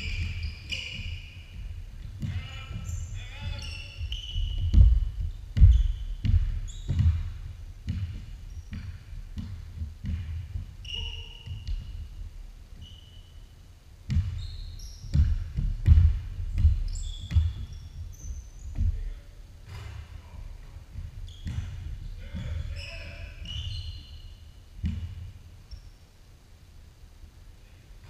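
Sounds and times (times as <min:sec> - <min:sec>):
basketball bouncing on wood floor: 0:00.0 - 0:13.0, 0:14.1 - 0:19.1, 0:19.7 - 0:24.1, 0:24.8 - 0:25.4
sneaker squeaks: 0:00.0 - 0:26.2.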